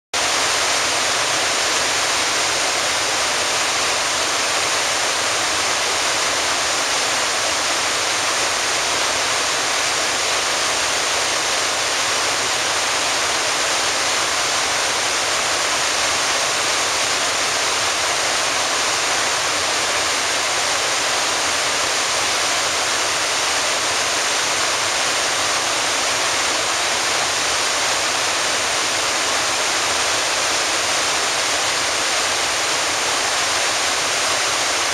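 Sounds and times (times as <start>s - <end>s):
waterfall crashing: 0.2s - 34.9s.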